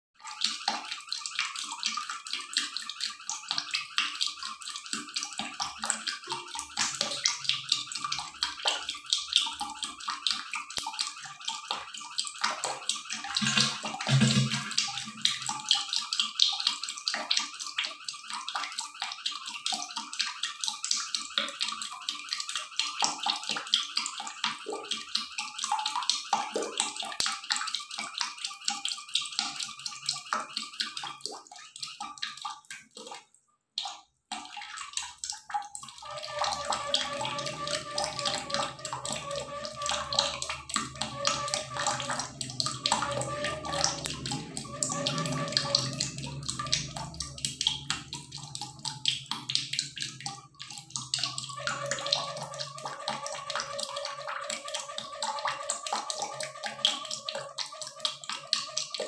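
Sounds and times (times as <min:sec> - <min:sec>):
water running and splashing: 0:00.2 - 0:59.0.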